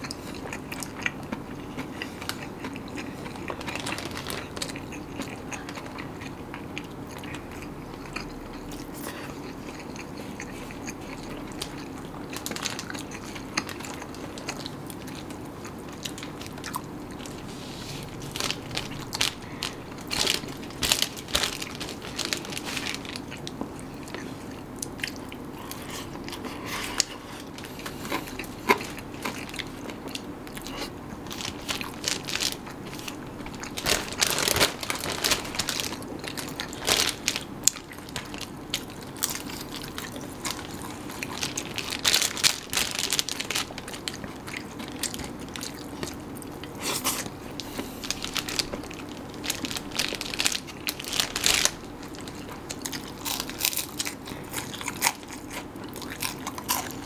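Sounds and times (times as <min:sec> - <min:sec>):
crunching and chewing crisp food: 0:00.0 - 0:57.0.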